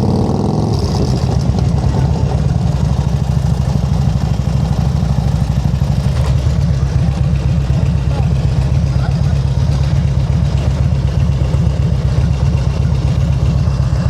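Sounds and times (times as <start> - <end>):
motorcycle engine idling low: 0.0 - 14.0.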